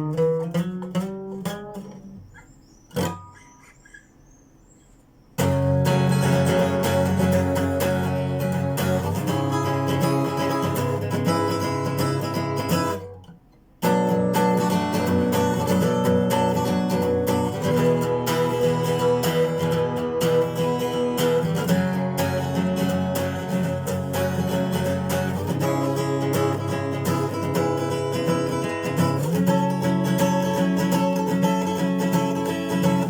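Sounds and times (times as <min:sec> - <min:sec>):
acoustic guitar strummed chords: 0:00.0 - 0:03.8, 0:05.4 - 0:33.0.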